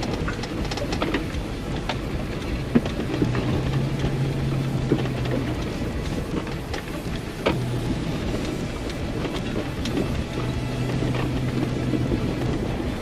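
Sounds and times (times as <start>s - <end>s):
low engine hum: 0.0s - 13.0s
rocks and gravel knocking: 0.0s - 13.0s
tyres rumbling on dirt: 0.0s - 13.0s.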